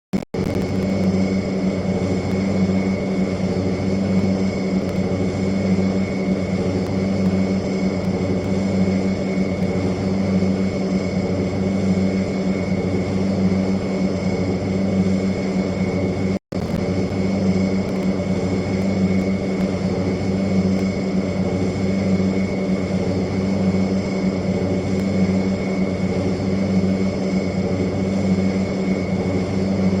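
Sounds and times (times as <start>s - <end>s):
steady engine drone: 0.1s - 30.0s.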